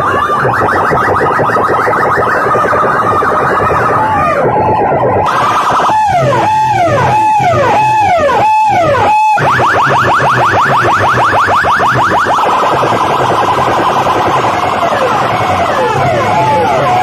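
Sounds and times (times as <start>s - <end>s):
electronic siren chirps and whoops: 0.0s - 17.0s.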